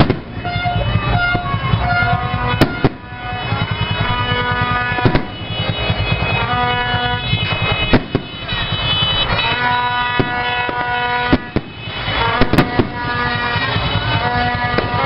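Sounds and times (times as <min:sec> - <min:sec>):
fireworks bursting with bangs: 0:00.0 - 0:15.0.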